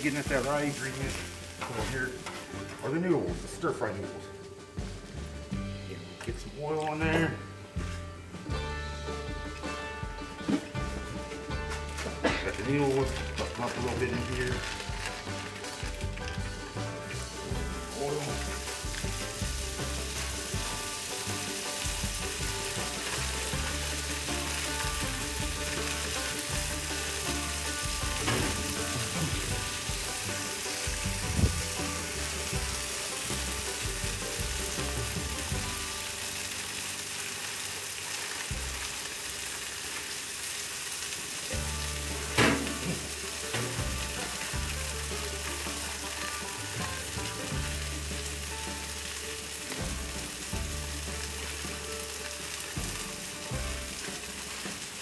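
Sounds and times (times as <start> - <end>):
noodles sizzling in oil: 0.0 - 3.3, 9.1 - 55.0.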